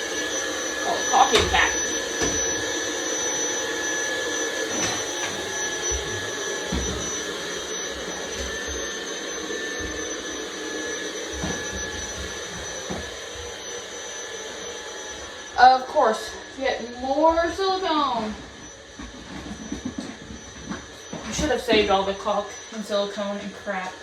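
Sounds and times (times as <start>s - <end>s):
mechanical whir with whine: 0.0s - 24.0s.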